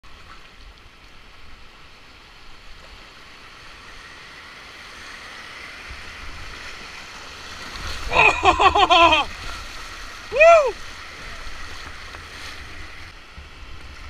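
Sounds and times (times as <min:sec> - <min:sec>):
river rapids rushing: 0:02.2 - 0:13.8.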